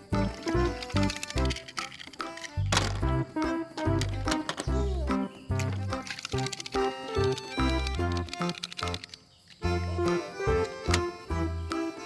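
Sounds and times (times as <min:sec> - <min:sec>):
upbeat children's music: 0:00.0 - 0:12.0.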